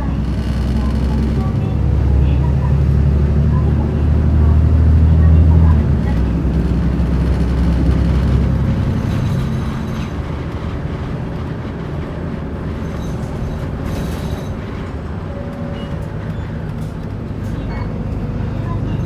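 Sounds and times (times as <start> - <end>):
bus diesel engine drone: 0.0 - 19.0
road noise: 0.0 - 19.0.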